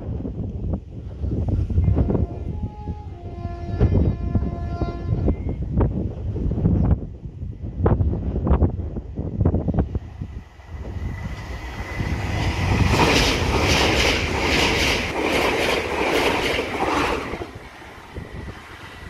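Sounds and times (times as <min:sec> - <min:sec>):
train passing at speed: 0:00.0 - 0:19.0
wind rumbling on microphone: 0:00.0 - 0:19.0.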